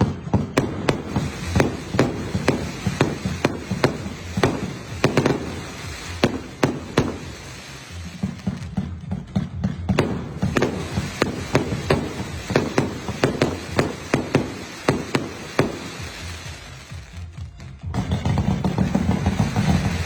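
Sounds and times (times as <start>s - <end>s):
fireworks cracks and bangs: 0.0s - 20.0s.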